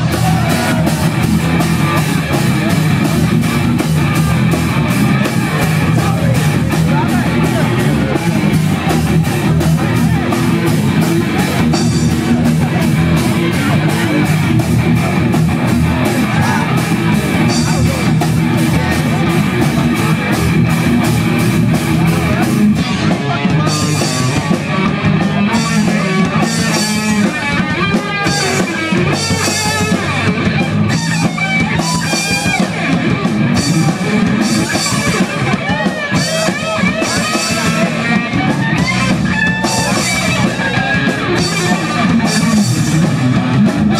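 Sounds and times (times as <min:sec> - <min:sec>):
bass guitar: 0:00.0 - 0:43.9
distorted electric guitar: 0:00.0 - 0:43.9
drum kit: 0:00.0 - 0:43.9.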